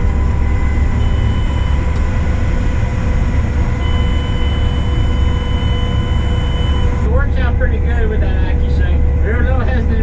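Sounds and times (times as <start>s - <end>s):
combine engine rumbling: 0.0s - 10.0s
machinery whining tones: 0.0s - 10.0s.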